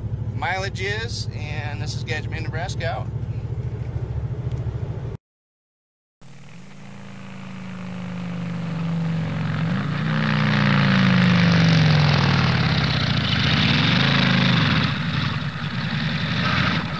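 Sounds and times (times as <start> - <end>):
engine running: 0.0 - 5.2, 6.2 - 16.9.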